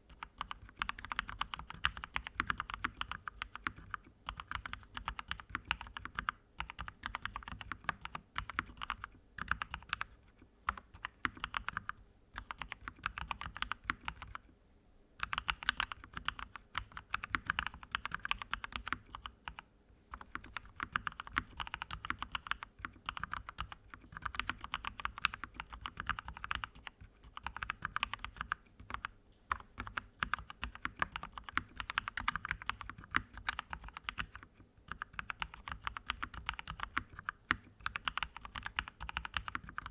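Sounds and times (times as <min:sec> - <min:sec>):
keyboard typing clicks: 0:00.1 - 0:14.5, 0:15.2 - 0:39.9.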